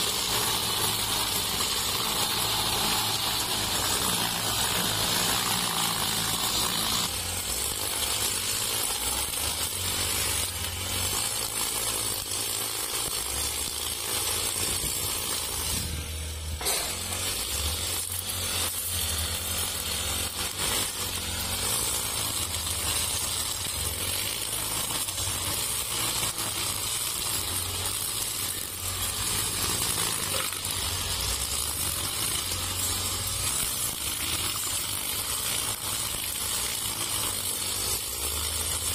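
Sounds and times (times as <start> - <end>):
brush cutter engine humming: 0.0 - 38.9
trimmer line hissing through grass: 0.0 - 38.9.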